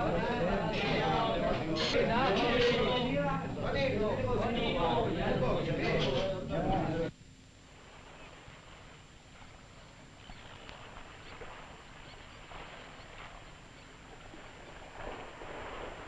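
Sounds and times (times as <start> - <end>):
film soundtrack hiss: 0.0 - 16.0
low hum: 0.0 - 16.0.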